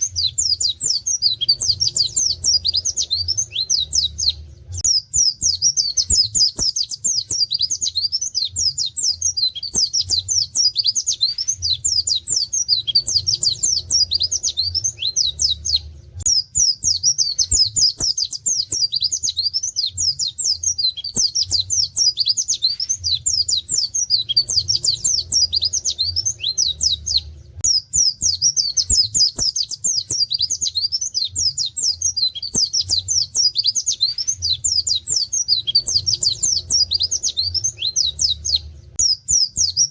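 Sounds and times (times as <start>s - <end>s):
bird singing high-pitched song: 0.0s - 39.9s.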